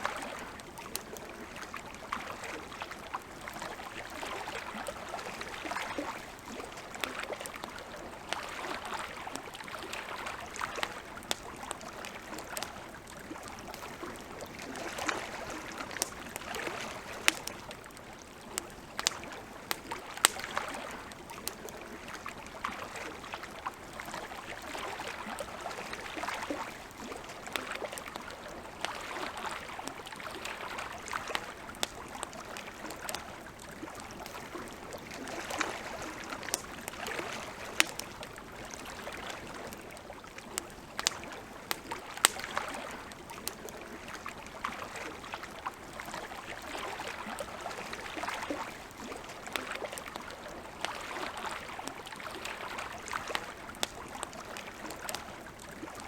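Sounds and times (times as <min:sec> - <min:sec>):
campfire crackling: 0:00.0 - 0:56.0
lake water lapping: 0:00.0 - 0:56.0.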